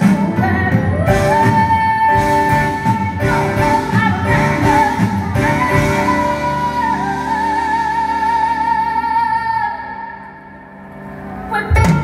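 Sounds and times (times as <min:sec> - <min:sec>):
soft band accompaniment: 0:00.0 - 0:12.0.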